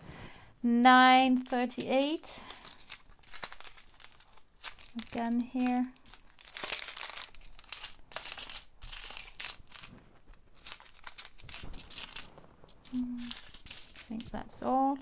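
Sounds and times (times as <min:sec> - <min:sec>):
plastic bags crinkling: 0:01.3 - 0:15.0.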